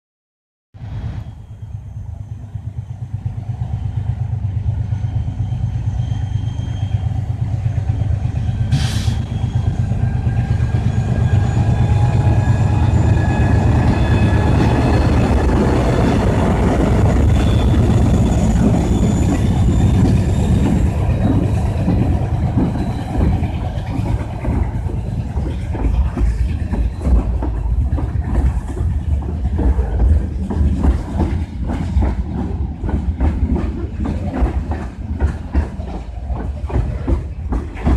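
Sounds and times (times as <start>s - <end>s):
diesel locomotive rumble: 0.8s - 37.9s
train wheels clickety-clack: 2.5s - 37.9s.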